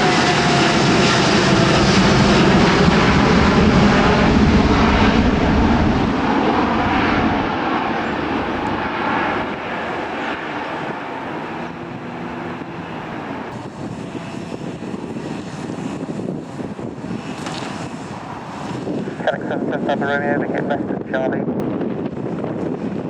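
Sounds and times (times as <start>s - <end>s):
jet engines passing: 0.0s - 23.0s.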